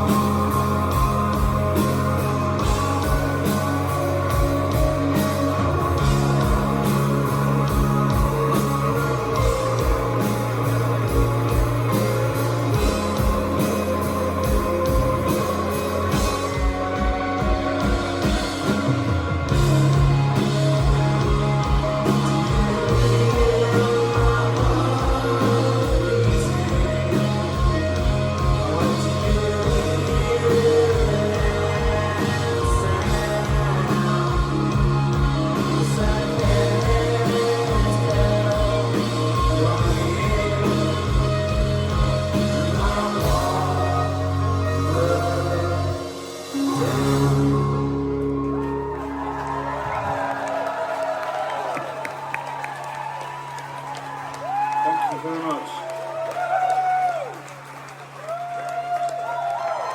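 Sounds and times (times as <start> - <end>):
rock band playing live: 0.0 - 55.2.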